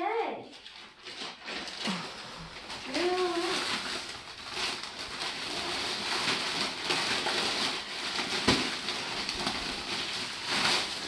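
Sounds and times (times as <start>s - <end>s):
wrapping paper crinkling and tearing: 0.4s - 11.0s.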